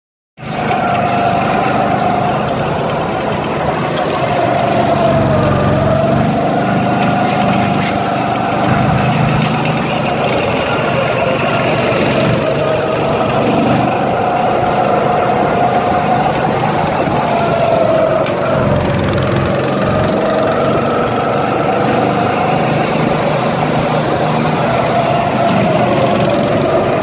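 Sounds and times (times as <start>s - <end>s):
go-kart engine buzzing: 0.4s - 27.0s.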